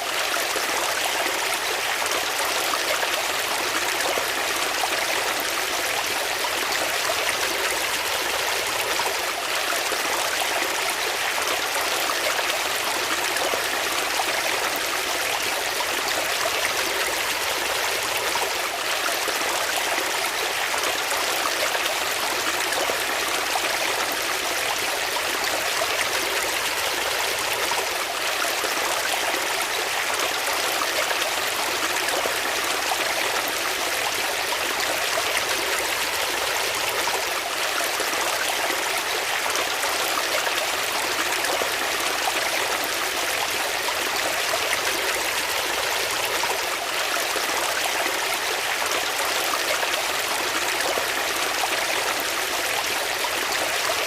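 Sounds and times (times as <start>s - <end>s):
water flowing over rocks: 0.0s - 54.0s.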